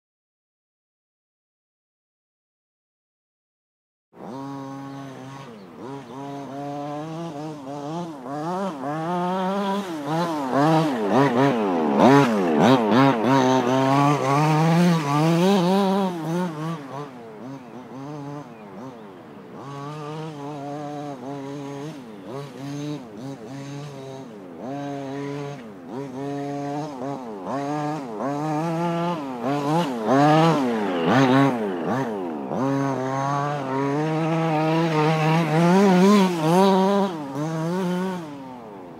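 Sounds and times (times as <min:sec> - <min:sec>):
rc car two-stroke engine revving: 0:04.2 - 0:38.9.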